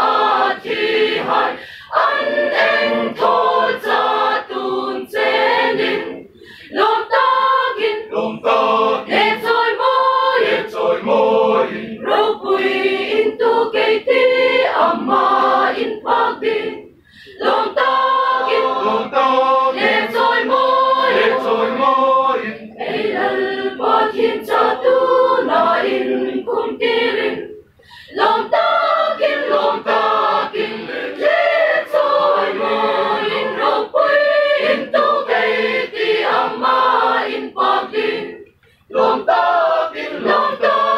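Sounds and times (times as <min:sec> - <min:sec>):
mixed choir singing in harmony: 0:00.0 - 0:40.9.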